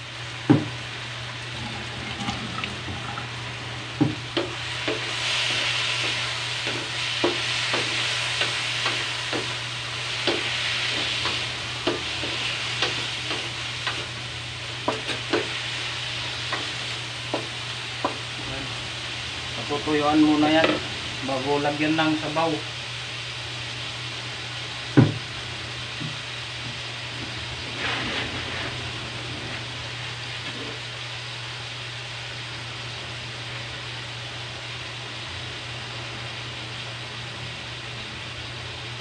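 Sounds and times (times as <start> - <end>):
chicken sizzling in a wok: 0.0 - 2.0, 2.8 - 39.0.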